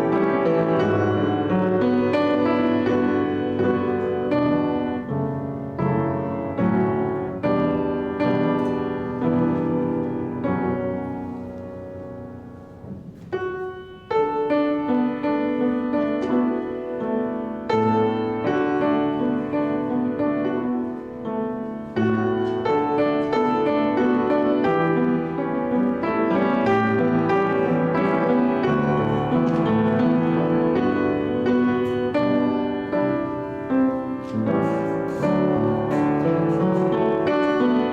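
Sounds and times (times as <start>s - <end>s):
slow piano chords: 0.0s - 37.9s.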